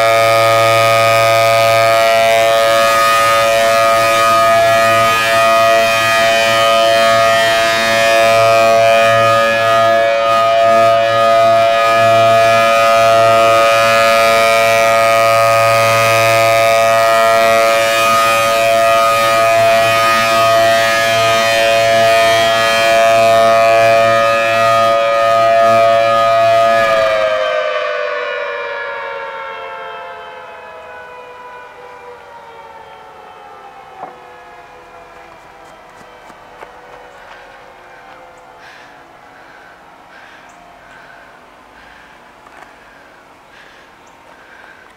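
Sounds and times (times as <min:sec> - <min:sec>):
mechanical warning siren: 0:00.0 - 0:44.9.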